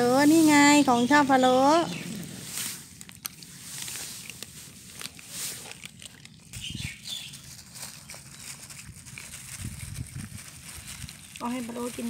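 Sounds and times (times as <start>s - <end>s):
cats crunching dry kibble: 0.0s - 12.0s
soft rustling: 2.1s - 12.0s.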